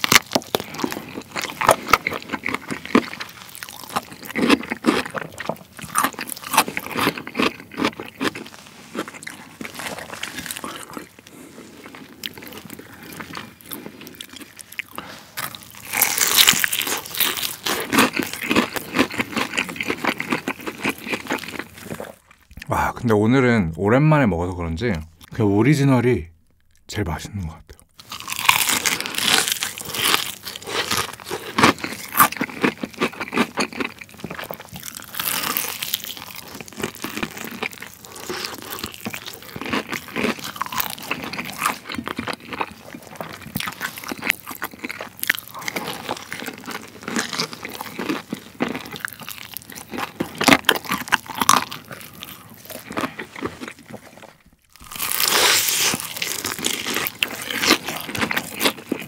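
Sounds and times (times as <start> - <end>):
crunching and chewing fried chicken: 0.0 - 22.7, 27.5 - 59.0.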